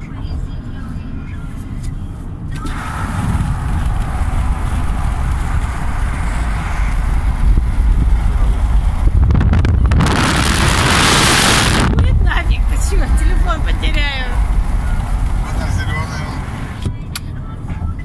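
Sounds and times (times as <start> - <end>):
road and wind rumble: 0.0 - 18.0.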